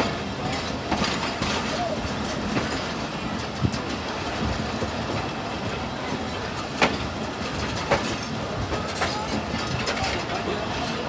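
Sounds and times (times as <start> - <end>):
train rumbling along track: 0.0 - 11.0
wheels clacking on rail joints: 0.0 - 11.0.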